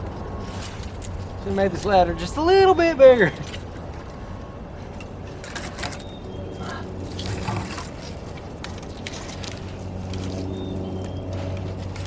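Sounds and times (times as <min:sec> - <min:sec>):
leafy branches rustling: 0:00.0 - 0:12.0.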